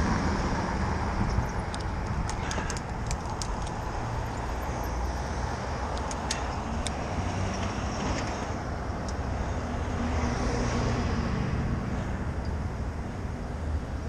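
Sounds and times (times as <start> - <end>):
vehicle passing: 0.0 - 13.3
street traffic rumble: 0.0 - 14.0.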